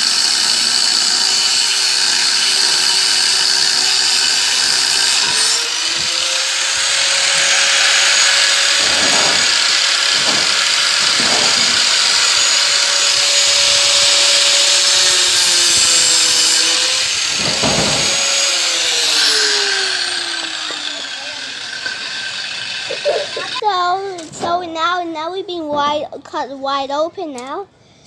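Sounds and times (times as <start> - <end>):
angle grinder cutting metal: 0.0 - 23.6.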